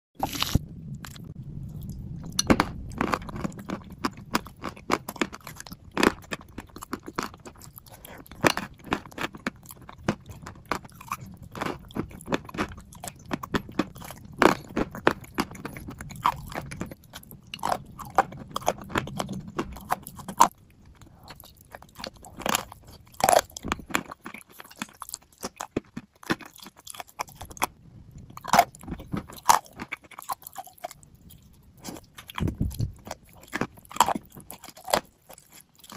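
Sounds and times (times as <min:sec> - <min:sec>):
chewing crunchy clay: 0:00.2 - 0:35.9.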